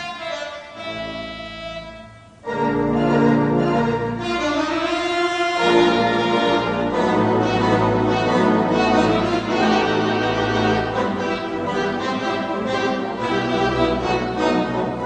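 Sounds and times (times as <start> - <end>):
orchestral music with held chords: 0.0 - 15.0.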